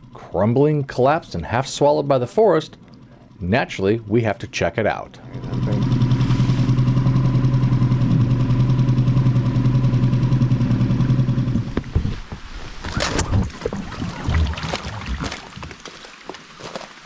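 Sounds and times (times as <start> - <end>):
outboard motor running: 0.0 - 16.1.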